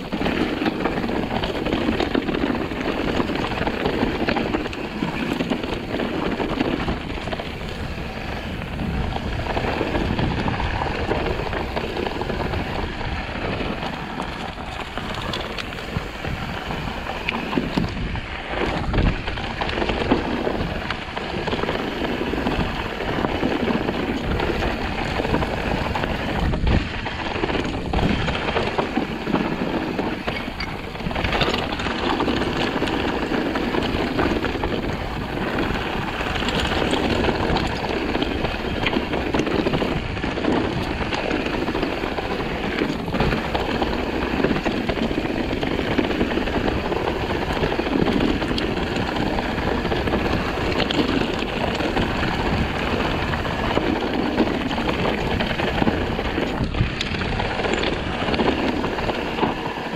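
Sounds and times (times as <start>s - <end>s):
bike knocking and rattling: 0.0s - 59.9s
bike tyres rolling over rock: 0.0s - 59.9s
wind on microphone: 0.0s - 59.9s.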